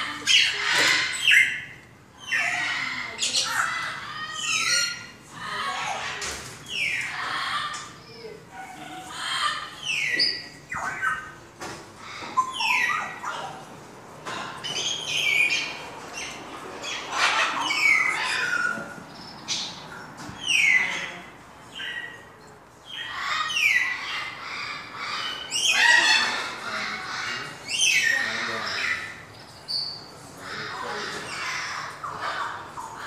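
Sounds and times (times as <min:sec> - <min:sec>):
caged birds squawking: 0:00.0 - 0:33.0.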